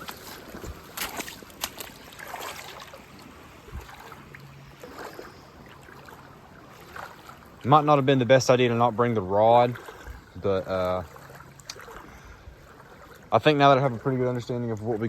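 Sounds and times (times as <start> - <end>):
water splashing around waders: 0.0 - 15.0.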